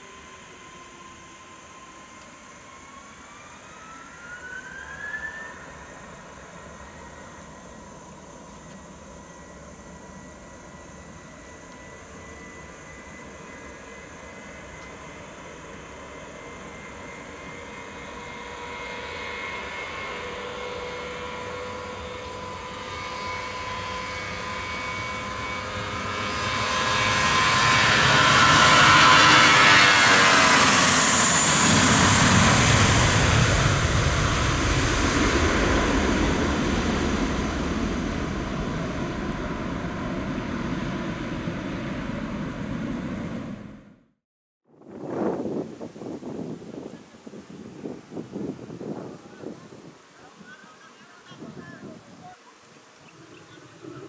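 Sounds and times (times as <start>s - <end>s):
jet engines at takeoff: 0.0s - 44.2s, 44.8s - 54.0s.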